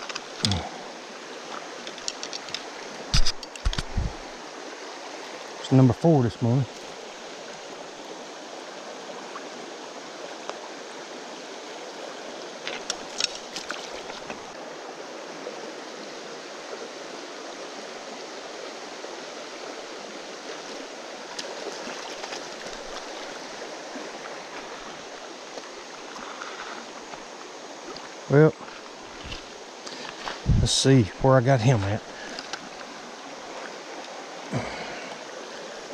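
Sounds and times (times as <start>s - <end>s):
creek babbling over stones: 0.0s - 35.9s.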